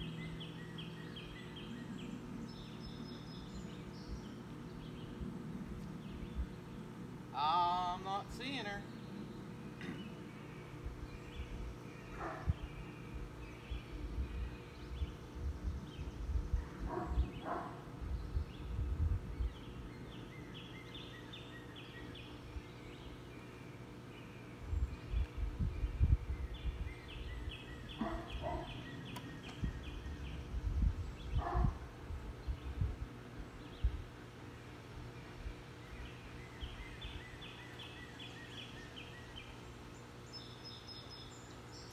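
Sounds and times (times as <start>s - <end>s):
low rumble on microphone: 0.0s - 7.4s, 8.9s - 21.1s, 24.3s - 39.5s
birds calling: 0.0s - 41.9s.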